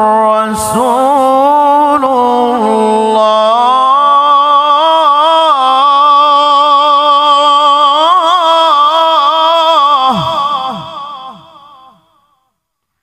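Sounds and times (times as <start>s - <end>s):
man chanting melodically: 0.0s - 12.2s.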